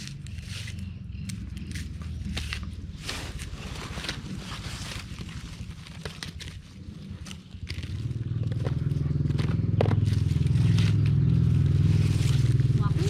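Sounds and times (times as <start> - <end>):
small engine throbbing: 0.0 - 13.0.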